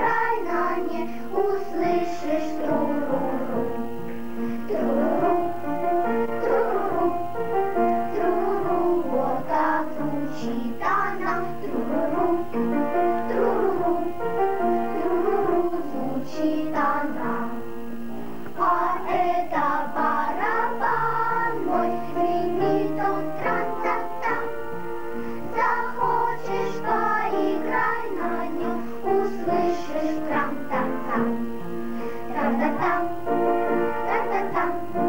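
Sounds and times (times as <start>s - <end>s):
children's choir singing: 0.0s - 35.0s.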